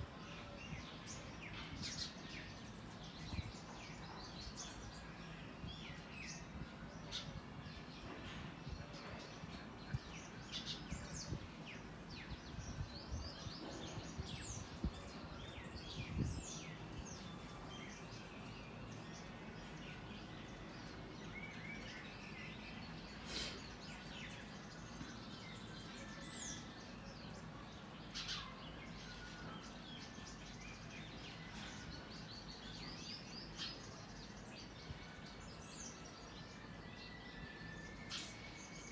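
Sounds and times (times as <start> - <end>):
outdoor background noise: 0.0 - 38.9
birds chirping: 0.1 - 38.9.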